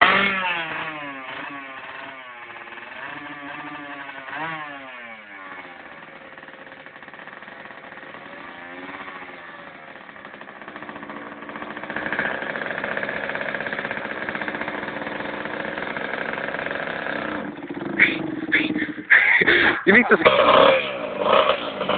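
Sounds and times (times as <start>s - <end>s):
two-stroke motorbike engine revving: 0.0s - 21.9s.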